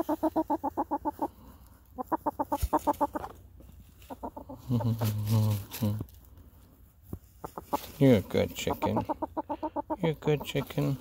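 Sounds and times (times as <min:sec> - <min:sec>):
hen clucking rapidly: 0:00.0 - 0:06.1, 0:07.2 - 0:11.0.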